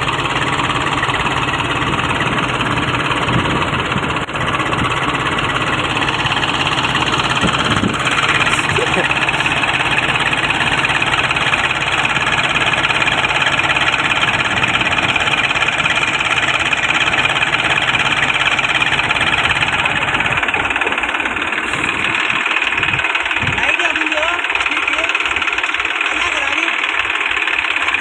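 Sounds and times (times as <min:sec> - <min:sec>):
tractor diesel engine running: 0:00.0 - 0:28.0
mechanical rattle: 0:00.4 - 0:28.0.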